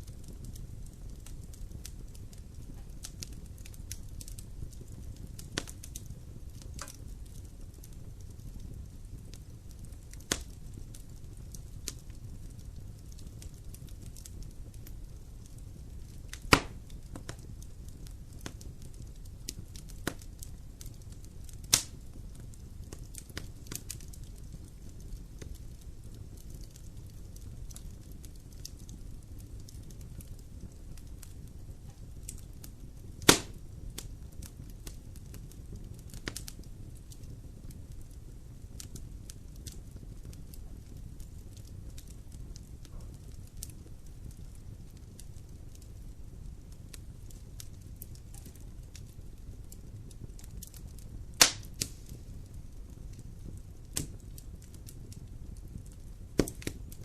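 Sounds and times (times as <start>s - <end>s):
fire burning in fireplace: 0.0s - 57.0s
loud sharp pops of fire: 0.0s - 57.0s.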